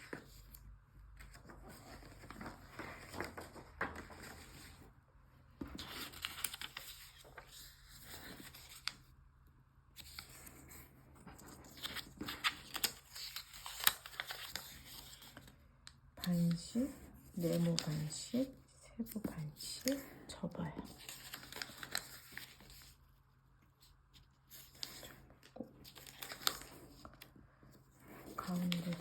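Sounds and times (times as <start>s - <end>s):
paper rustling and crinkling: 0.0s - 9.2s, 9.9s - 29.0s.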